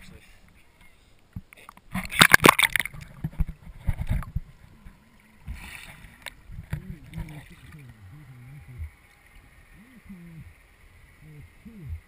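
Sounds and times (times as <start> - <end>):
water splashing against camera: 1.4 - 12.0
underwater gurgling: 1.9 - 12.0.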